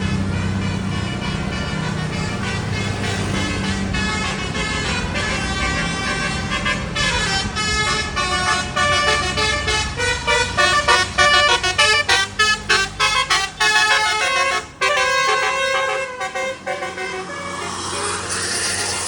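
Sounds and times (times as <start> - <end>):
bus engine running: 0.0 - 19.0
multi-tone bus horn tune: 0.0 - 19.0.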